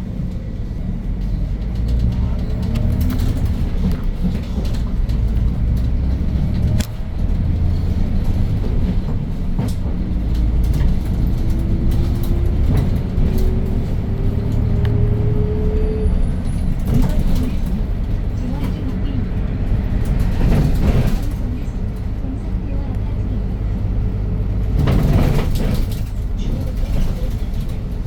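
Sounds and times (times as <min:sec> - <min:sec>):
bus engine rumble: 0:00.0 - 0:28.0.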